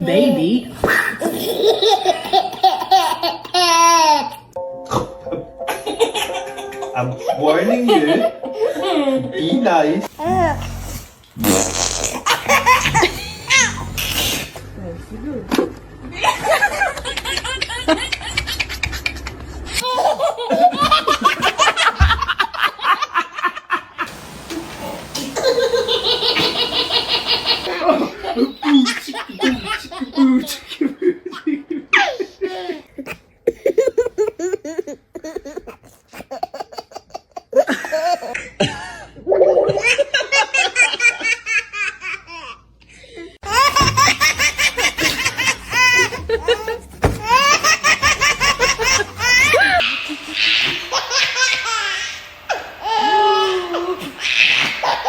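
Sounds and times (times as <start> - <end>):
children giggling: 1.1 - 4.4, 5.7 - 7.0, 12.2 - 14.1, 16.2 - 42.5, 43.4 - 55.0.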